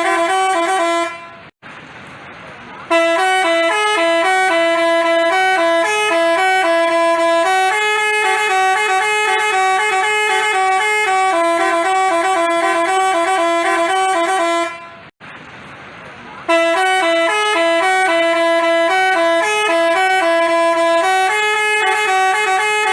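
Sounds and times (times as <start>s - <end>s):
bus horn playing a tune: 0.0s - 1.5s, 2.9s - 15.1s, 16.5s - 22.9s.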